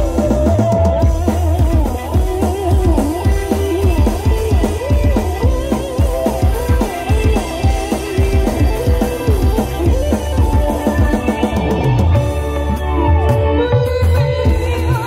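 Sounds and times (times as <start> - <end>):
band music over sound system: 0.0 - 15.0
bending melodic lead: 0.0 - 15.0
fast drumming: 0.0 - 15.0
heavy bass: 0.0 - 15.0.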